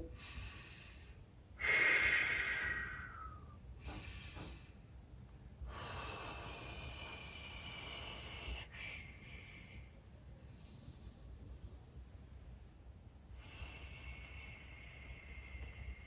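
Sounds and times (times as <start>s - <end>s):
man breathing deeply: 0.0s - 5.0s, 5.6s - 11.8s, 13.3s - 16.0s.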